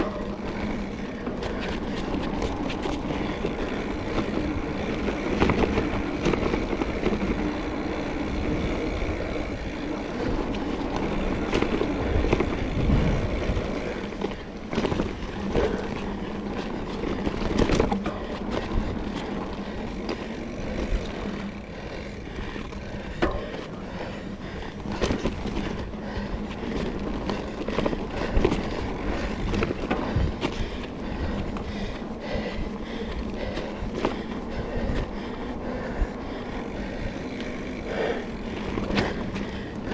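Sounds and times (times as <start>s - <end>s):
bike knocking and rattling: 0.0s - 39.9s
bike tyres rumbling on dirt: 0.0s - 39.9s.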